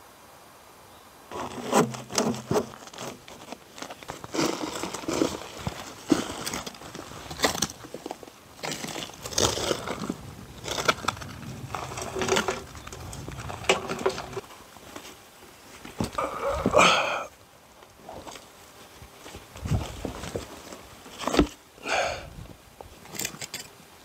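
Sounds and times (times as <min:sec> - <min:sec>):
hand scraping loose earth: 0:01.3 - 0:23.8.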